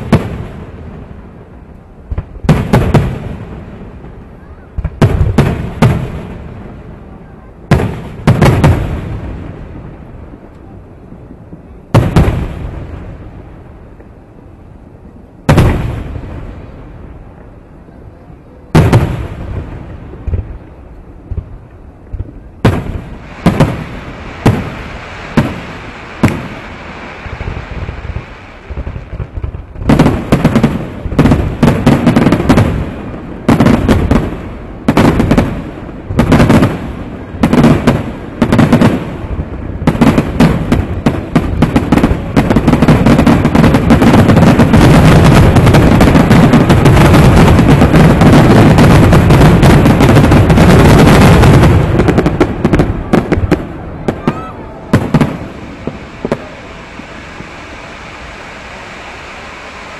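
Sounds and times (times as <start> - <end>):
firework booms and crackle: 0.0 - 59.9.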